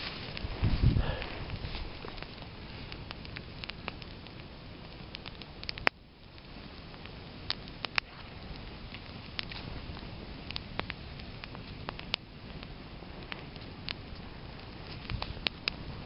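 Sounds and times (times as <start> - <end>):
campfire crackling: 0.0 - 16.0
fire popping sharply: 0.0 - 16.0.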